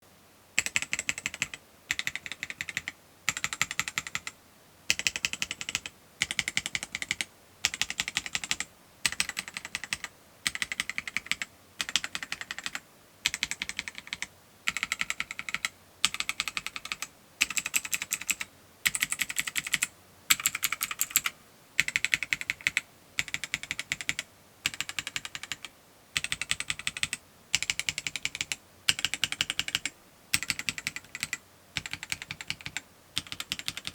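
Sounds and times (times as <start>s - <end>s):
mechanical keyboard keystroke clacks: 4.9s - 33.9s.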